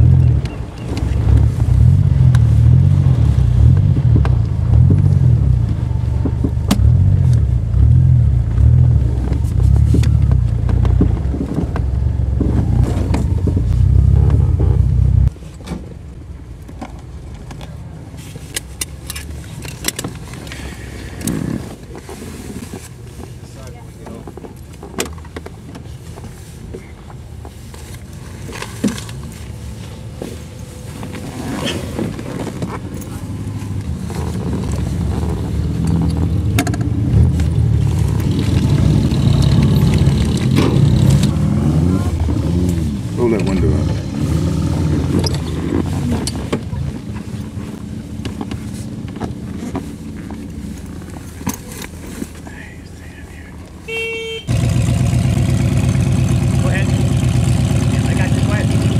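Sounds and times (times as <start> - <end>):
car engines running slowly: 0.0 - 58.9.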